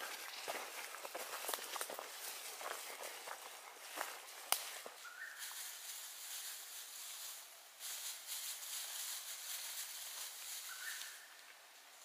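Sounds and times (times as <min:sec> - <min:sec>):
faint high-pitched outdoor hiss: 0:00.0 - 0:12.0.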